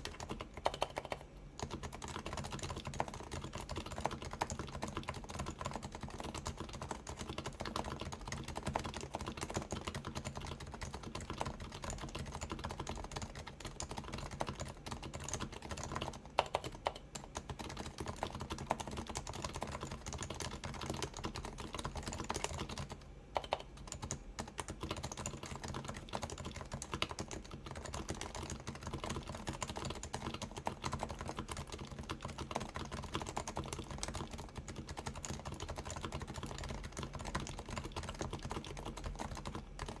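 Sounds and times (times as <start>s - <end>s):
muted keyboard typing: 0.0s - 40.0s.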